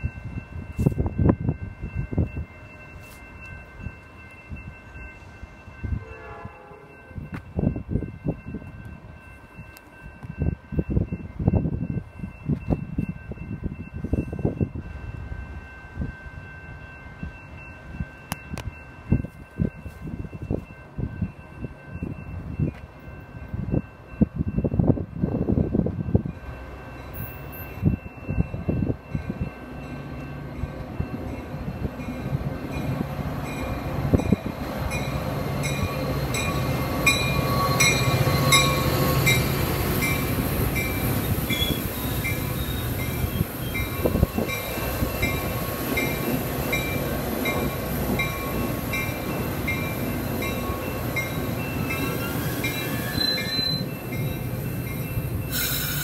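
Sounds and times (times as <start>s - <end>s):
wind gusts on microphone: 0.0s - 53.2s
diesel train passing: 0.0s - 56.0s.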